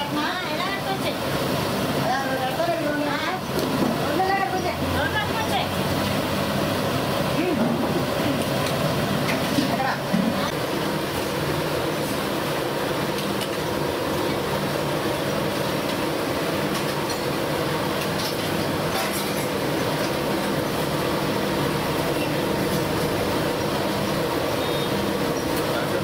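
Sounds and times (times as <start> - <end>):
oil sizzling while deep-frying: 0.0 - 26.0.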